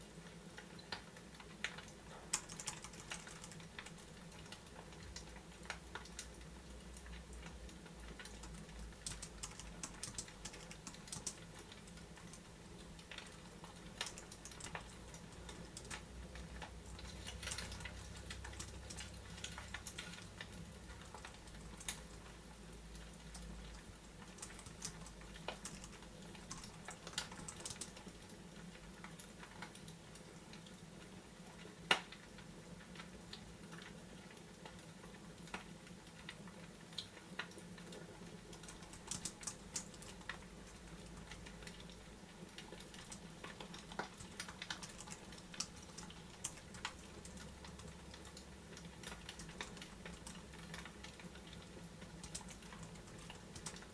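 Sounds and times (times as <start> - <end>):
fireplace fire crackling: 0.0 - 53.9.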